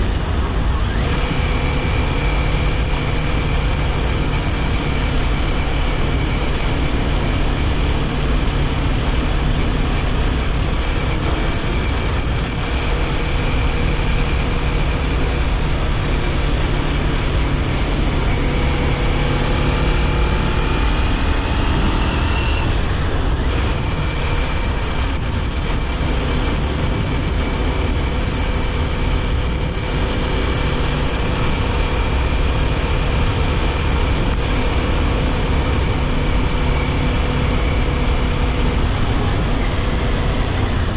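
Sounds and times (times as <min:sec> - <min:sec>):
motorcycle engine running: 0:00.0 - 0:40.9
wind and road rush: 0:00.0 - 0:40.9.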